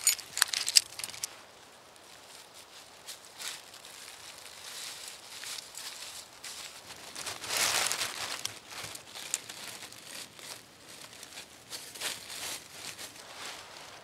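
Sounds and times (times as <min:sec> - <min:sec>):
footsteps in dry leaves: 0:01.9 - 0:14.0.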